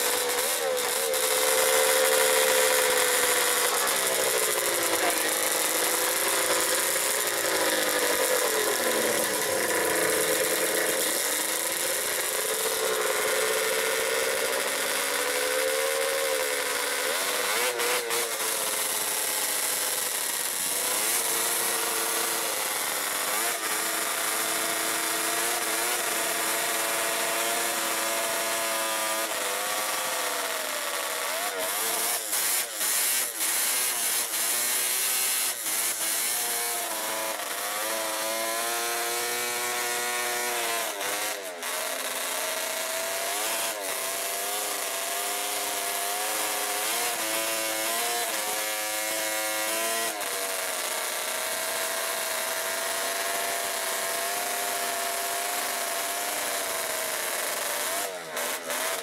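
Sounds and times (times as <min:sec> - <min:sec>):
snowmobile engine revving: 0:00.0 - 0:59.0
track spinning on pavement hiss: 0:00.0 - 0:59.0.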